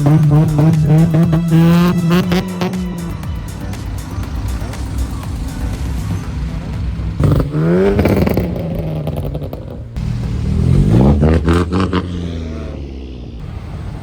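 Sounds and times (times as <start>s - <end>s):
car engine revving: 0.0s - 14.0s
exhaust crackles: 0.0s - 14.0s.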